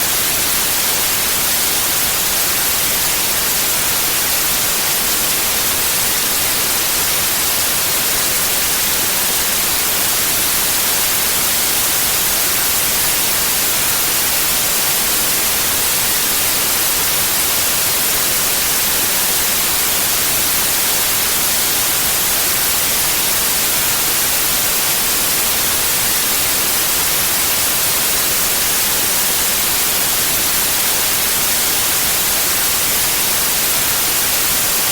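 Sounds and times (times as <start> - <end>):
white noise hiss: 0.0 - 34.9.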